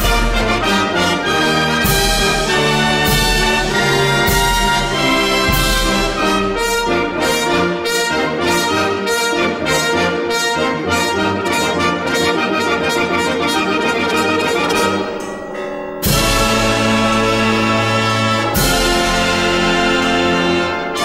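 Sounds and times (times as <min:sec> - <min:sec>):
brass-led orchestral music: 0:00.0 - 0:21.0.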